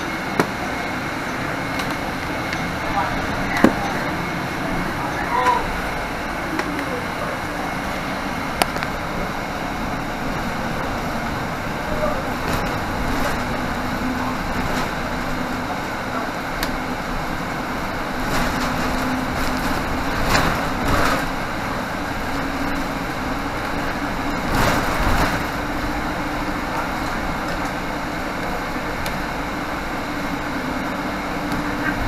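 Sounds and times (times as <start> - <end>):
bus drivetrain hum: 0.0 - 32.0
road noise: 0.0 - 32.0.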